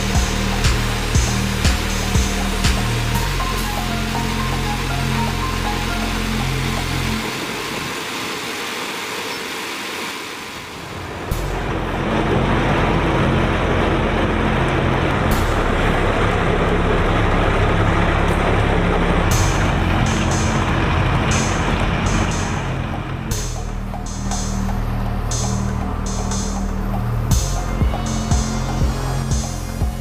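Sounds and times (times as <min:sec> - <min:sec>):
loader engine running: 0:00.0 - 0:08.5, 0:10.9 - 0:30.0
steady rushing hiss: 0:00.0 - 0:30.0.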